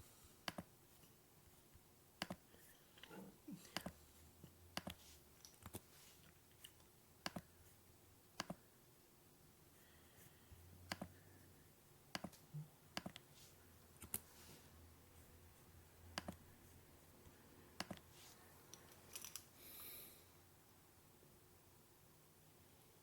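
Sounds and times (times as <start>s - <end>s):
soft hiss: 0.0s - 23.0s.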